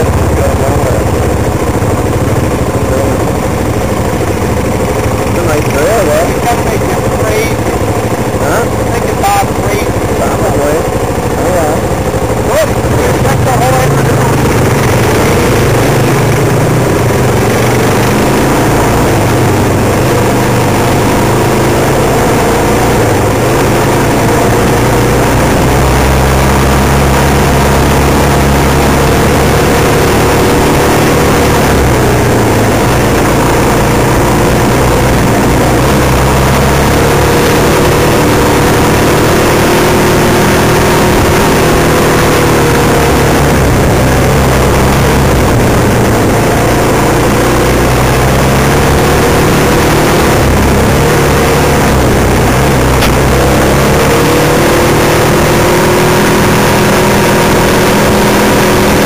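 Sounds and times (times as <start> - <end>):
constant rushing noise: 0.0 - 59.0
motorcycle engine running: 0.0 - 59.0.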